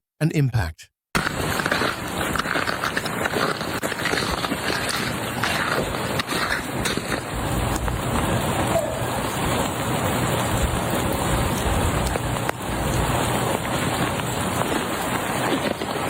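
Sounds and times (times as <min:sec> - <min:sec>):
freezing rain hissing: 0:01.2 - 0:16.0.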